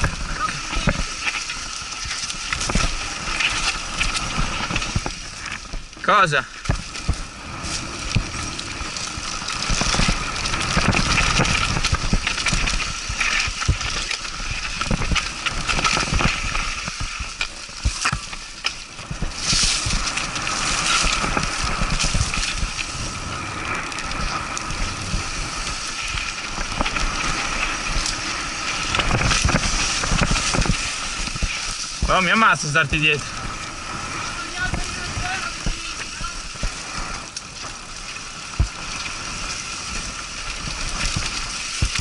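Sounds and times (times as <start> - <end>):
bike knocking and rattling: 0.0 - 42.0
bike tyres crunching over dirt: 0.0 - 42.0.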